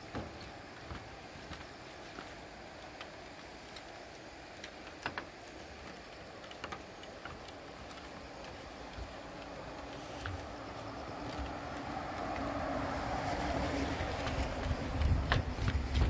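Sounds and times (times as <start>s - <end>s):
faint outdoor background hiss: 0.0s - 16.0s
light clicks and ticks: 0.0s - 16.0s.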